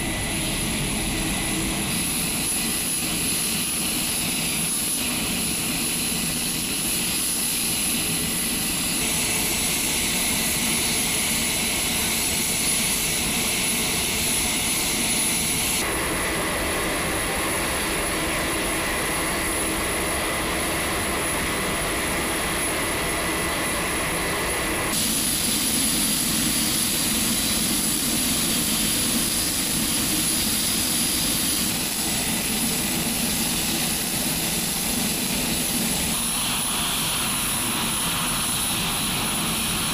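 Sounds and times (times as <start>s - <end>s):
high turbine whine: 0.0s - 39.9s
turboprop engines running: 0.0s - 39.9s.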